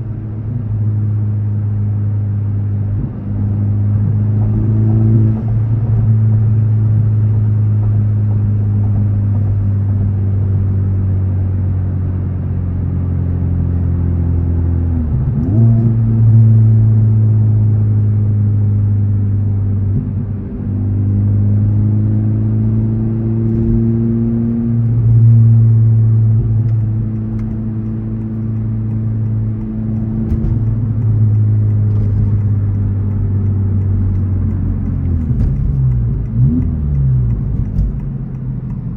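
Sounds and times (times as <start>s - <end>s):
car engine droning while driving: 0.0s - 38.9s.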